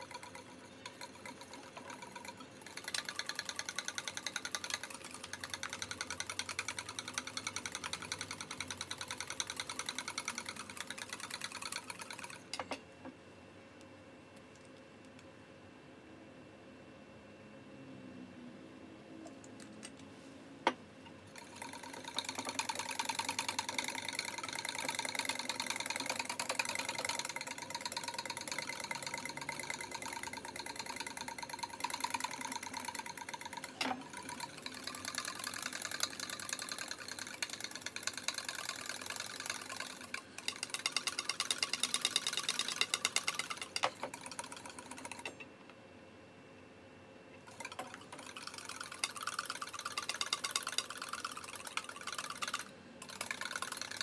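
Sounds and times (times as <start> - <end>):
wire whisk rattling in metal bowl: 0.0 - 12.6, 21.4 - 45.4, 47.5 - 54.0.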